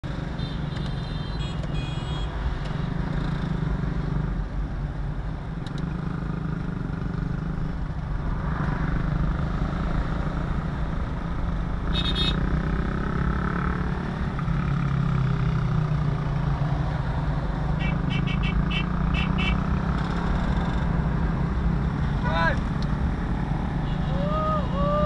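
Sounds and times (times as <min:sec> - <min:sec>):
car engine and tyre noise: 0:00.0 - 0:25.0.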